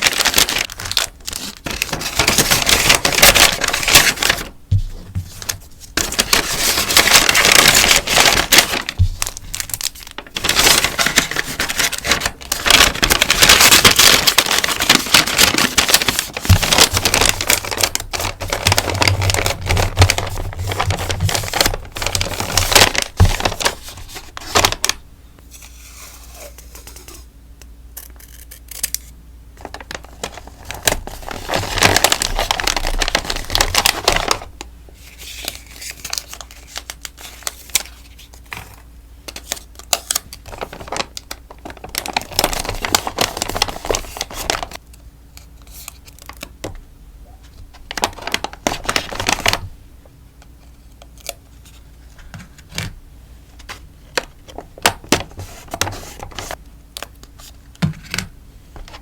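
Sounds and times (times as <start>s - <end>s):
plastic packaging crinkling: 0.0s - 25.0s, 29.6s - 44.8s, 45.6s - 46.7s, 47.7s - 49.7s, 53.6s - 58.2s.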